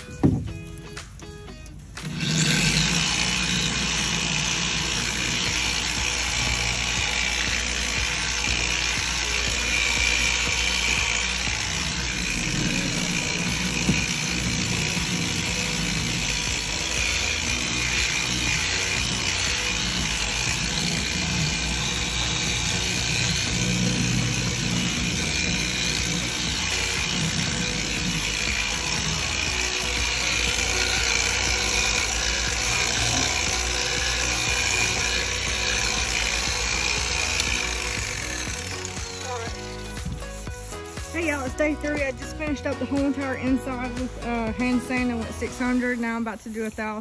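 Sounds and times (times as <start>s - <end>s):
power tool whirring: 0.0s - 47.0s.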